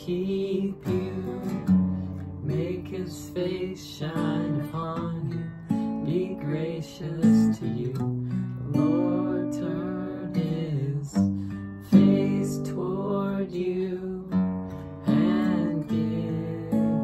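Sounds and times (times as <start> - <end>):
acoustic guitar strumming: 0.0 - 17.0
woman and man singing: 0.0 - 17.0.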